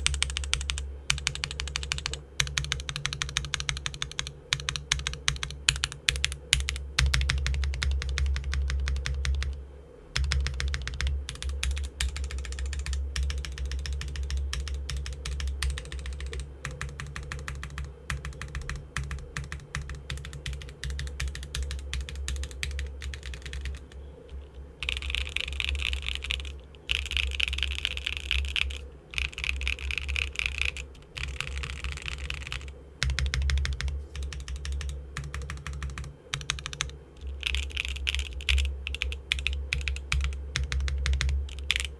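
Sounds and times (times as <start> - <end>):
fast typing on mechanical keyboard: 0.0 - 9.6, 10.2 - 24.0, 24.8 - 41.9.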